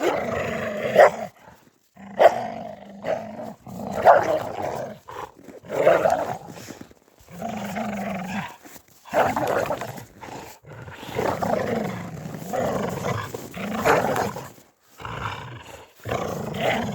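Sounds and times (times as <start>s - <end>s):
dog growling: 0.0s - 16.9s.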